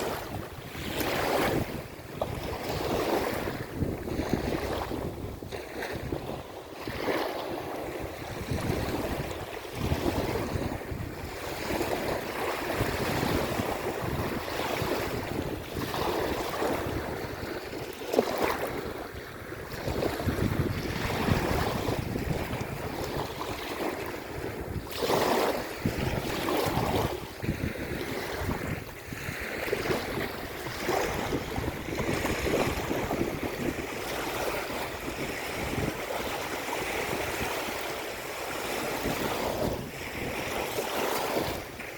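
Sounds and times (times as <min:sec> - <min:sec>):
waves breaking on shore: 0:00.0 - 0:41.9
wind gusting over microphone: 0:00.0 - 0:41.9.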